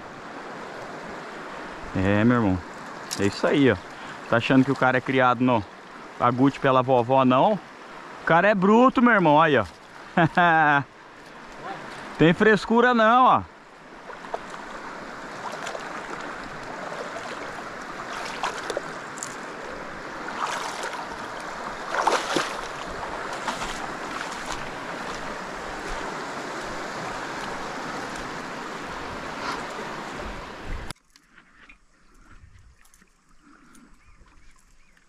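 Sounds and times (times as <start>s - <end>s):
river water rushing: 0.0s - 30.9s
water splashes: 0.0s - 31.3s.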